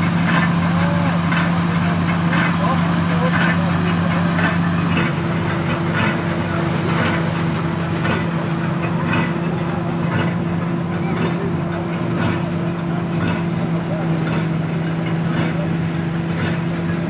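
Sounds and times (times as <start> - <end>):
combine harvester engine hum: 0.0 - 17.0.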